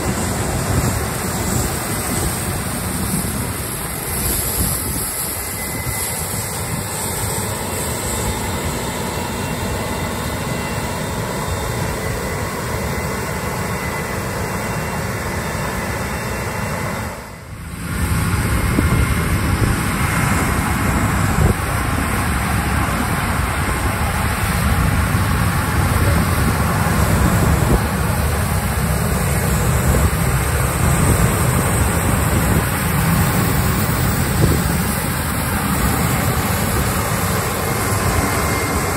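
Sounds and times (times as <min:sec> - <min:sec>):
harvester and tractor engines rumbling: 0:00.0 - 0:38.9.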